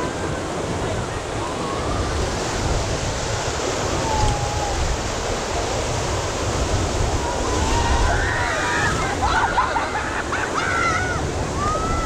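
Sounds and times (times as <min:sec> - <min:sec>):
whitewater rapids roaring: 0:00.0 - 0:12.0.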